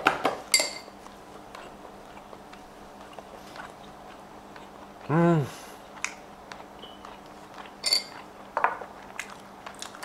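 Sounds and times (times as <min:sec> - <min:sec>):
steady low hum: 0:00.0 - 0:10.0
person chewing: 0:00.9 - 0:10.0.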